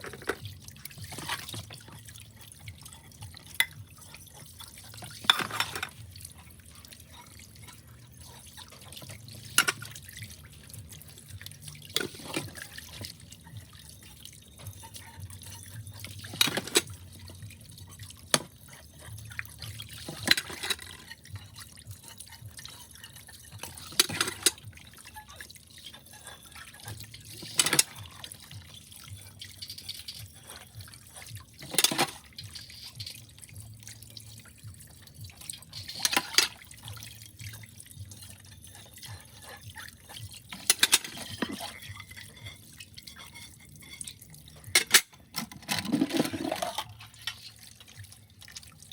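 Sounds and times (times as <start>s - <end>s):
water running in sink: 0.0s - 48.9s.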